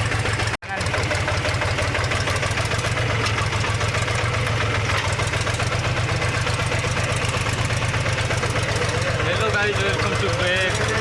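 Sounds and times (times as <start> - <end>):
tractor diesel engine throbbing: 0.0 - 11.0.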